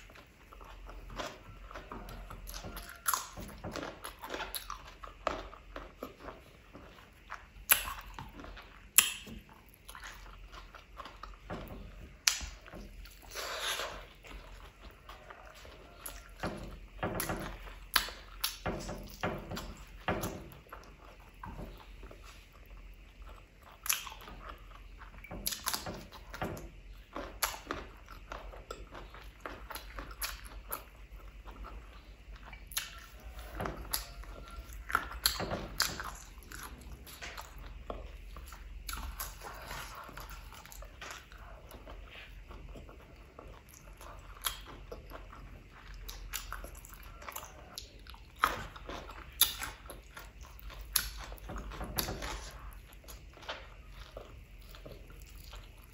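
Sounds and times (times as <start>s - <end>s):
wet chewing and lip-smacking: 0.0s - 55.9s.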